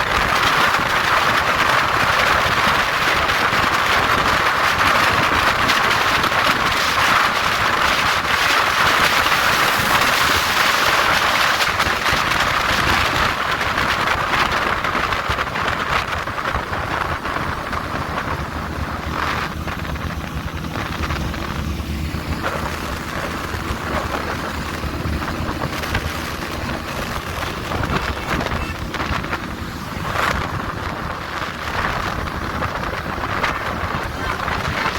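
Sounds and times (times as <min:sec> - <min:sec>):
wind roaring over microphone: 0:00.0 - 0:34.9.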